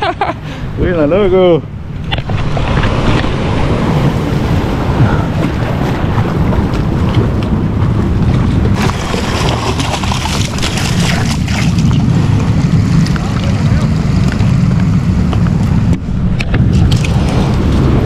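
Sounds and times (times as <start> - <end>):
wind buffeting microphone: 0.0 - 18.0
sea washing: 1.7 - 18.0.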